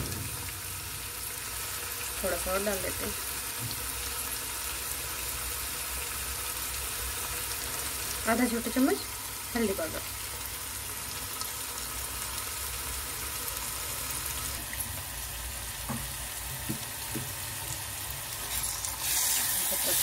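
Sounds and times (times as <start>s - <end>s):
masala sizzling in oil: 0.0s - 20.0s.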